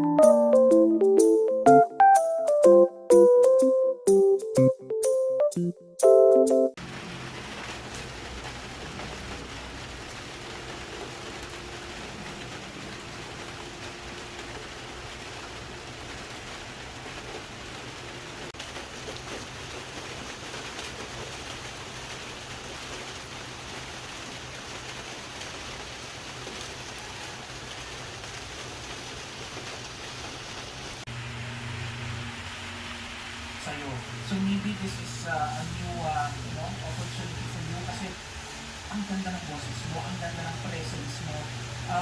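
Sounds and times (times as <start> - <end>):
steady rain falling: 6.8 - 42.0.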